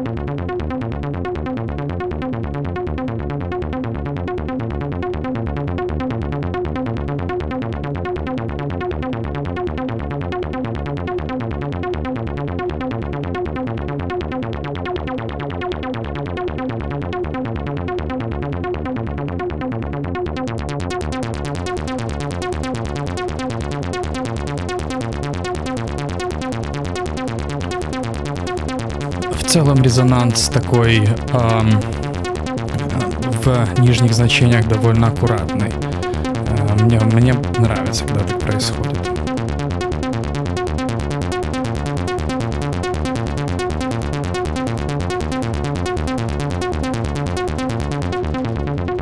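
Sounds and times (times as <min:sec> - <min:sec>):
fast repeating synthesizer sequence: 0:00.0 - 0:49.0.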